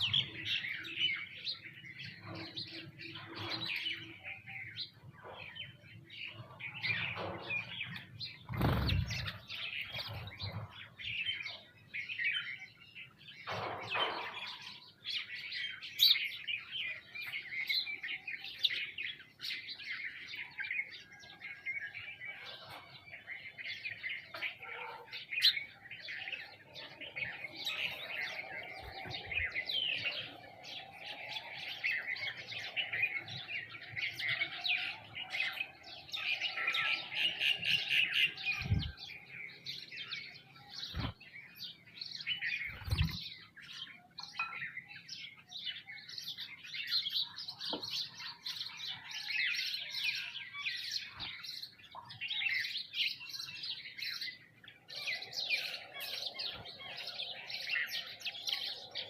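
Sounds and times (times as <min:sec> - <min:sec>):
birds chirping in a flock: 0:00.0 - 0:59.0.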